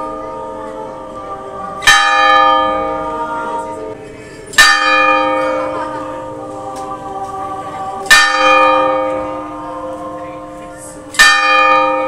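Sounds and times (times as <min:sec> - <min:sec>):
church bell ringing: 0:00.0 - 0:06.8, 0:07.6 - 0:12.0.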